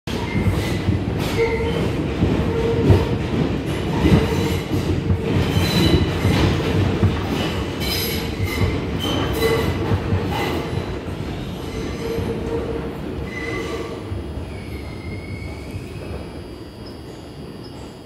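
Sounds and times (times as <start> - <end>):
train knocks: 0.1 - 16.6
train wheels rumbling on rail: 0.1 - 18.0.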